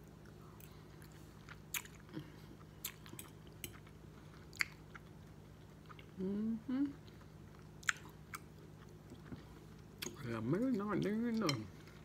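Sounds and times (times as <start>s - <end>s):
person chewing food: 0.0s - 6.2s, 6.8s - 12.0s.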